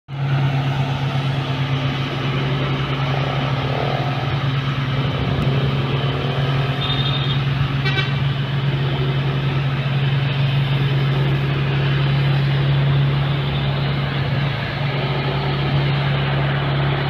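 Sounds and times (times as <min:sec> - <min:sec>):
heavy vehicle engine droning: 0:00.1 - 0:17.0.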